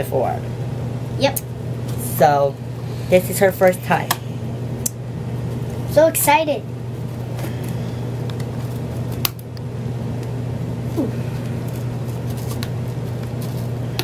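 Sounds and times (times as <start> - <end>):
low hum of room machinery: 0.0 - 14.0.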